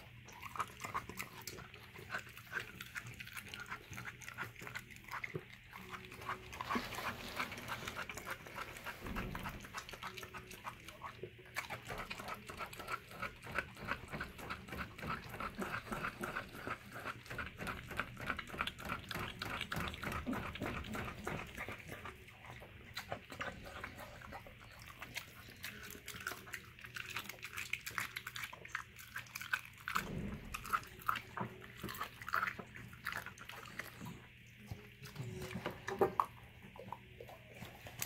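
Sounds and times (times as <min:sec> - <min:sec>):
dog chewing and licking: 0:00.0 - 0:38.0.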